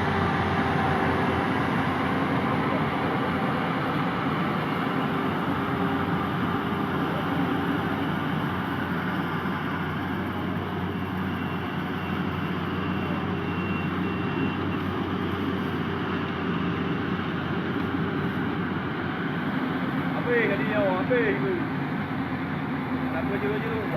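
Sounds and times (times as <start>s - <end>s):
combine harvester engine running: 0.0s - 23.9s.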